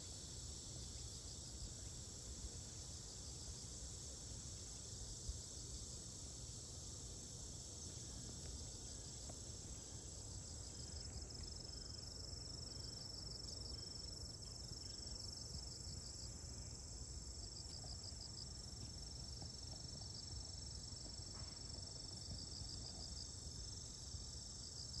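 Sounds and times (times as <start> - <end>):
outdoor background noise: 0.0 - 25.0
rapid insect chirping: 0.0 - 25.0.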